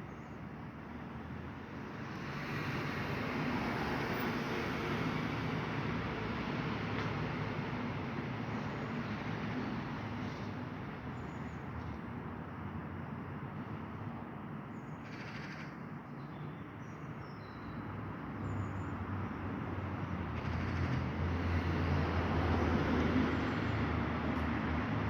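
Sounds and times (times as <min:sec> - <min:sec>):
road traffic hum: 0:00.1 - 0:25.0.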